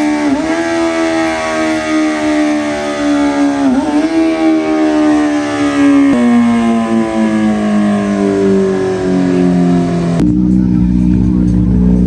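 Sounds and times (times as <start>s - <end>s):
motorcycle engine winding down: 0.0s - 12.0s.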